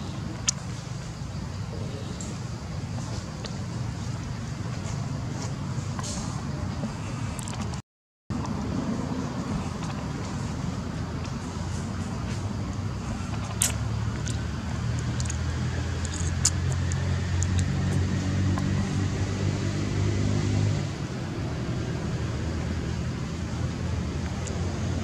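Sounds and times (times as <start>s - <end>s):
vehicle engine hum: 0.0s - 25.0s.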